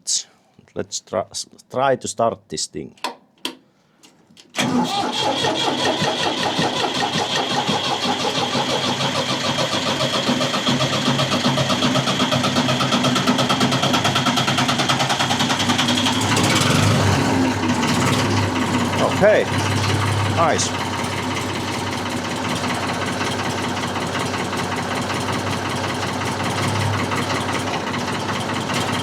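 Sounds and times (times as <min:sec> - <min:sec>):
starter motor cranking: 0:04.5 - 0:29.0
tractor engine running: 0:04.6 - 0:29.0.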